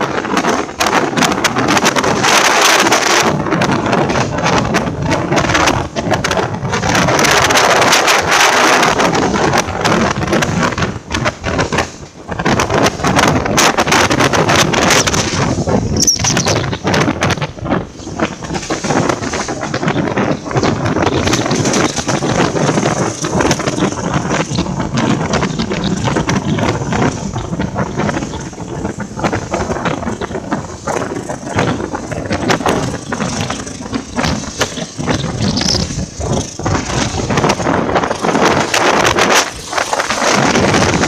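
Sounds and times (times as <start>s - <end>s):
train running gear rumble: 0.0s - 41.0s
wind buffeting microphone: 0.0s - 41.0s
rattling and clattering: 0.1s - 41.0s.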